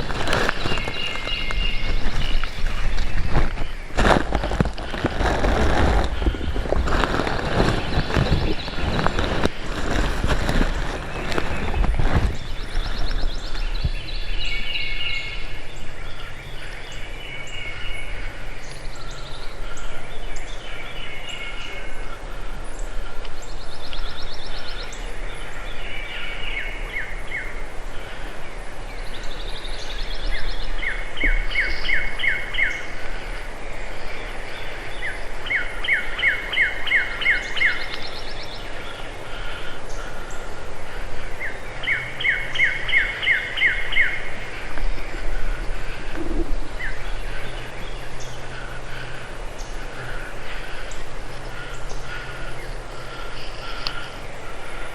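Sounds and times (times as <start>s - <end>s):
birds chirping and trilling: 0.0s - 54.9s
low background rumble: 0.0s - 54.9s.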